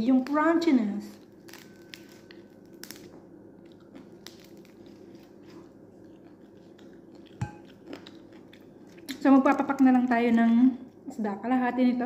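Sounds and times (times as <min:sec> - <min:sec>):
steady low hum: 0:00.0 - 0:12.0
chewing: 0:01.2 - 0:11.0.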